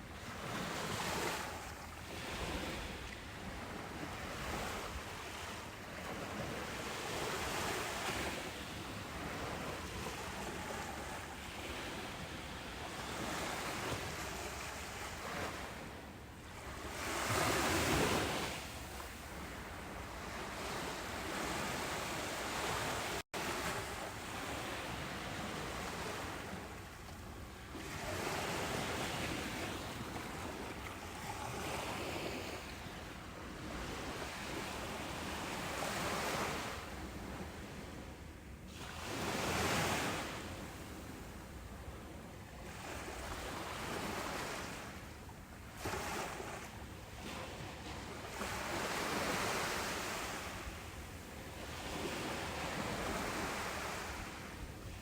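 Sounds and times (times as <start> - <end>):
ocean waves breaking: 0.2 - 37.4, 45.8 - 55.0.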